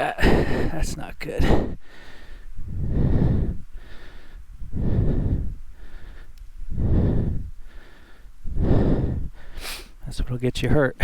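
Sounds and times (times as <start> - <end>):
breath buffeting microphone: 0.0 - 10.0
man breathing hard: 0.0 - 10.0.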